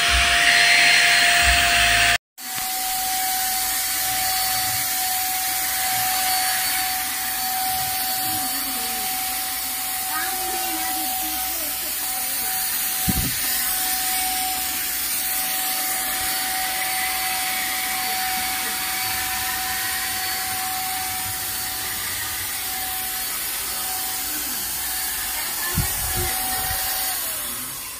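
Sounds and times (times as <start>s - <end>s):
paint spray gun motor whine: 0.0s - 27.9s
hiss of air and spray: 2.6s - 20.0s, 21.0s - 27.6s.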